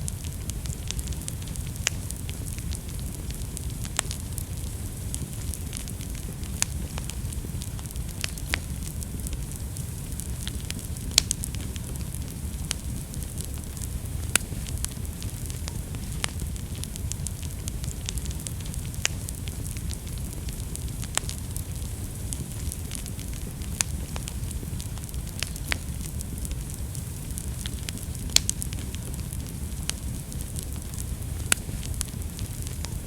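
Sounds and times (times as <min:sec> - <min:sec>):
fire crackles and pops: 0:00.0 - 0:33.0
fire low rumble: 0:00.0 - 0:33.0.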